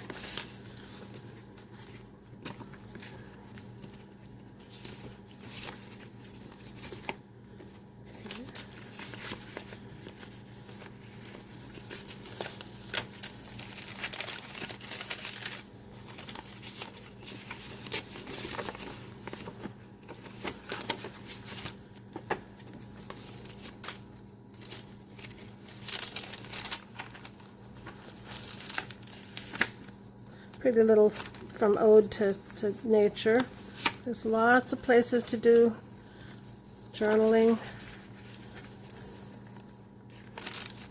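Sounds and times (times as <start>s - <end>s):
paper pages rustling and crinkling: 0.0s - 40.9s.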